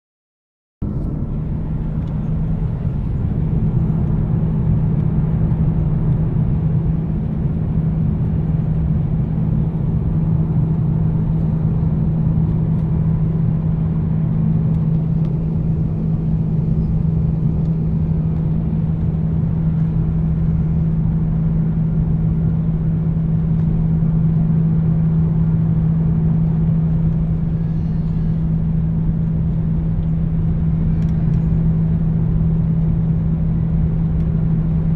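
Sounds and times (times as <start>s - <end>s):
jet engines humming in cabin: 0.8s - 34.9s.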